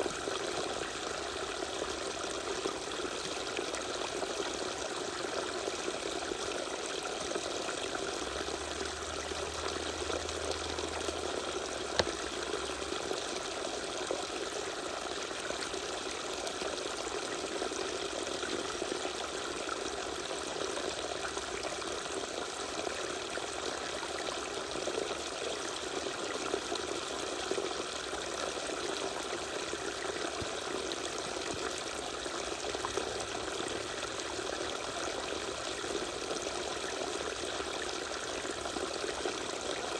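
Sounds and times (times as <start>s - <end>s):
small waterfall pouring: 0.0s - 39.9s.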